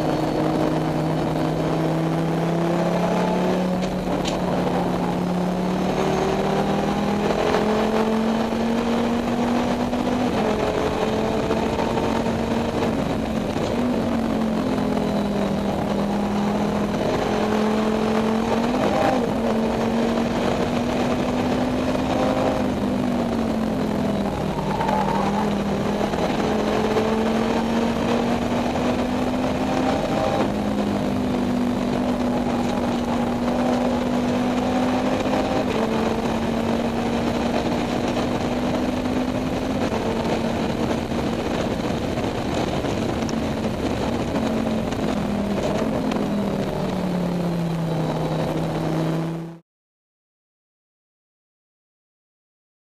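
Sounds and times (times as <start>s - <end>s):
race car engine revving: 0.0s - 49.6s
road and wind noise: 0.0s - 49.6s.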